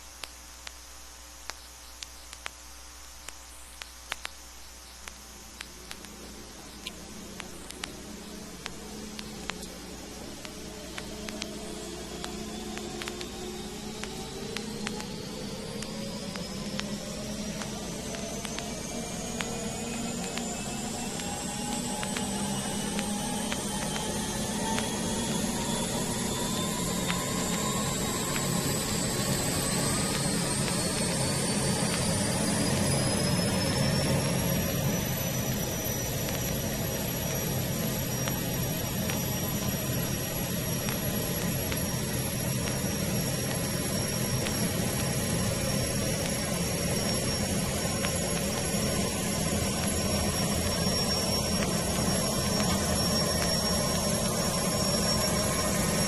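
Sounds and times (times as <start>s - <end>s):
constant low rumble: 0.0s - 56.0s
gas-turbine engines whining: 5.2s - 56.0s.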